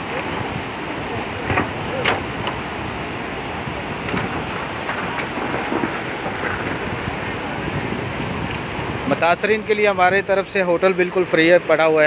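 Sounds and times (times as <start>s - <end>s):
wind on microphone: 0.0s - 11.2s
river rushing: 0.0s - 12.0s.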